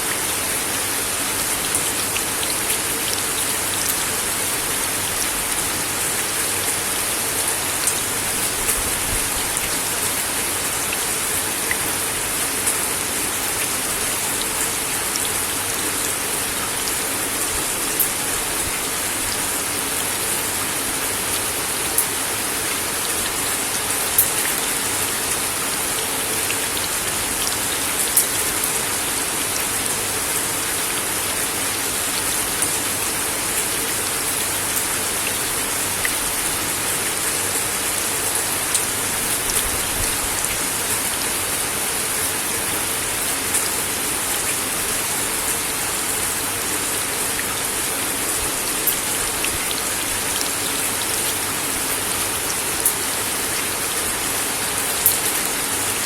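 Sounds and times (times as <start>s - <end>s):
rain on wooden deck: 0.0s - 56.0s.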